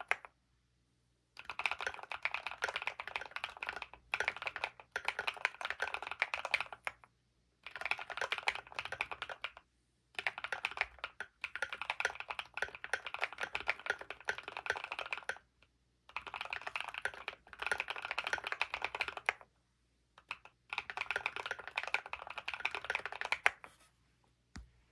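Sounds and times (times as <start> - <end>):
mechanical keyboard typing: 0.0 - 0.3, 1.4 - 7.0, 7.6 - 9.6, 10.2 - 15.5, 16.1 - 19.5, 20.2 - 23.6.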